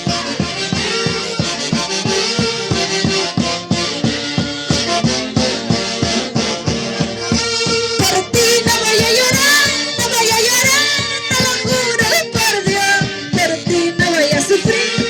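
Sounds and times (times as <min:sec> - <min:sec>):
folk band music: 0:00.0 - 0:15.0.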